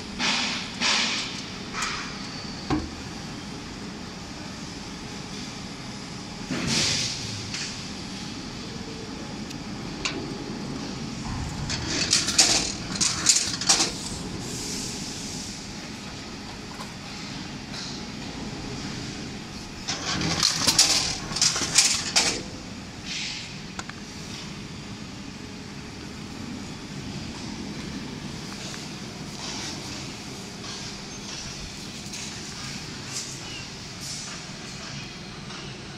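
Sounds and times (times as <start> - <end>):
machine clattering and hissing: 0.0 - 3.2, 6.4 - 8.6, 9.9 - 24.6, 27.0 - 35.9
steady machine hum: 0.0 - 35.9.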